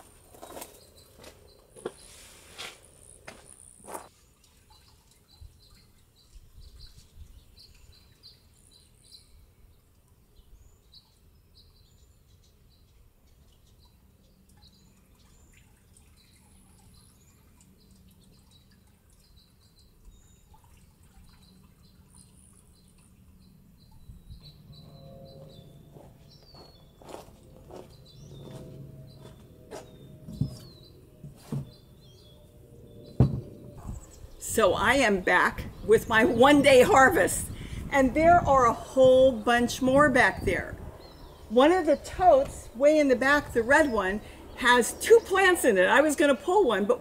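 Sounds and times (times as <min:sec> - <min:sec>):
small birds chirping: 0:00.3 - 0:47.0.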